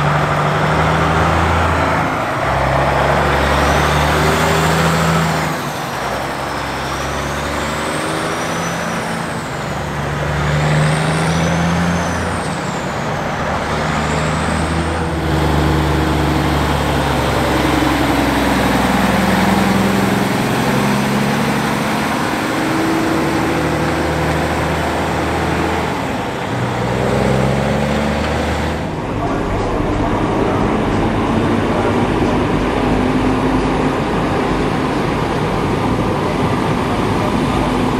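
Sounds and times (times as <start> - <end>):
diesel trucks pulling away: 0.0 - 37.9.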